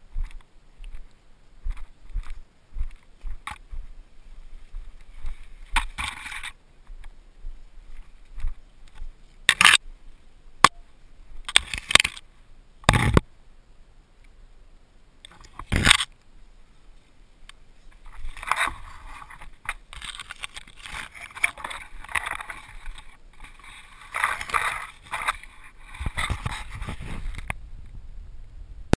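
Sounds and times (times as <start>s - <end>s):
leaves and branches rustling: 0.0s - 28.5s.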